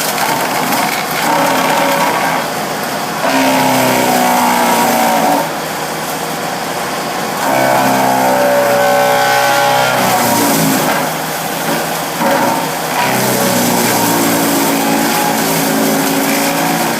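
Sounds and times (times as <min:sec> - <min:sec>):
wood chipper running: 0:00.0 - 0:16.9.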